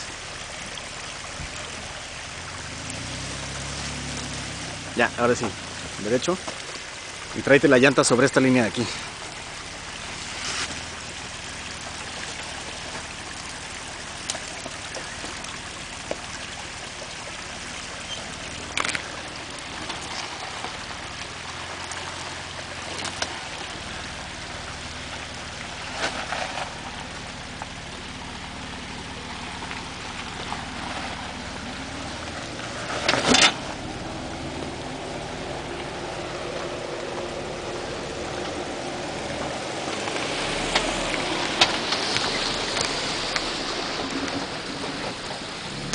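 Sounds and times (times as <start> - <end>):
vehicle engine crawling: 0.0 - 45.9.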